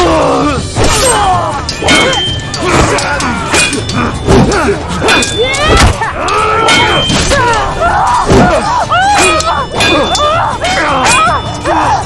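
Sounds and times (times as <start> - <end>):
dramatic music score: 0.0 - 12.0
men shouting and grunting: 0.0 - 12.0
sword blades clashing: 0.0 - 12.0.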